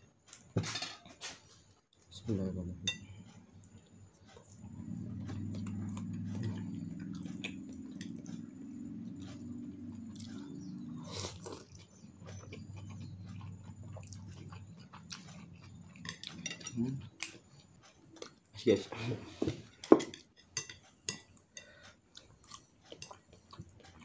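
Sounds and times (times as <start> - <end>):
low steady hum: 2.1 - 24.0
chewing and slurping noodles: 3.2 - 18.5, 19.4 - 24.0.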